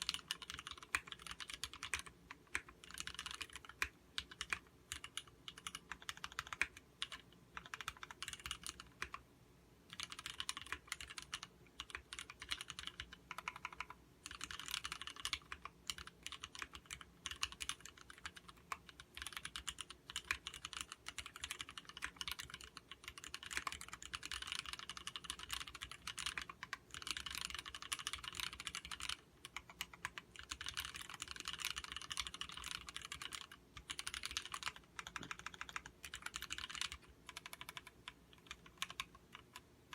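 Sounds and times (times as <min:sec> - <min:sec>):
mechanical keyboard typing: 0:00.0 - 0:09.2, 0:09.9 - 0:39.9.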